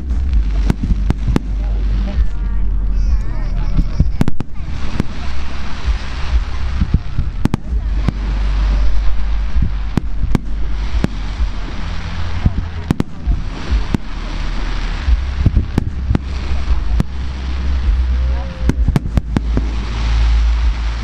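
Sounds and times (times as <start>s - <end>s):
continuous hiss and low rumble: 0.0s - 21.0s.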